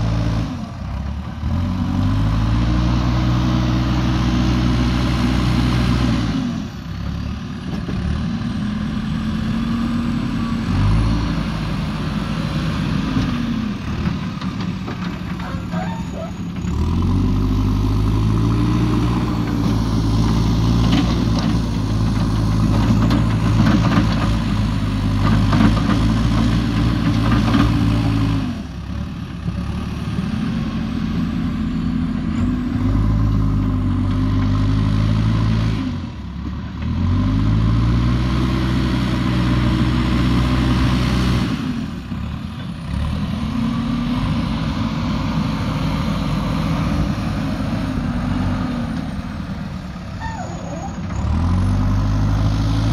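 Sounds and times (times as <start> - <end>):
backhoe diesel engine revving: 0.0 - 52.9.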